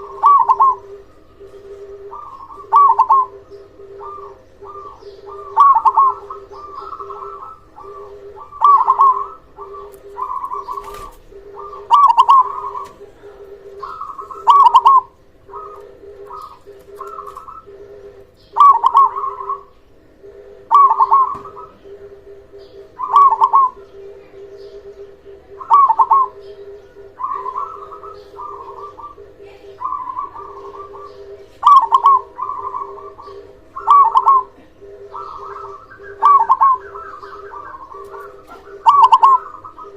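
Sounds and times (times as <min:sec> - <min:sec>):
dove cooing: 0:00.0 - 0:39.9
low hum: 0:00.0 - 0:39.9.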